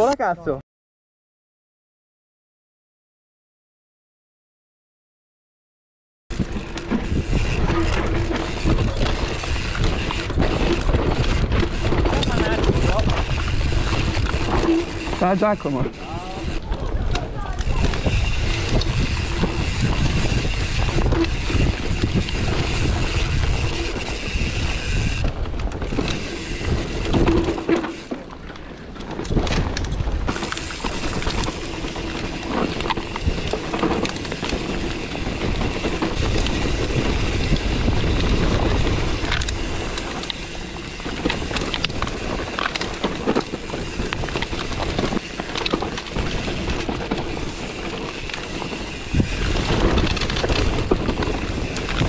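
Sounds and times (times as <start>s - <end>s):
tyres rolling over dirt: 6.3s - 15.6s, 16.2s - 52.0s
bike rattling and clicking: 6.3s - 52.0s
wind buffeting microphone: 6.3s - 52.0s.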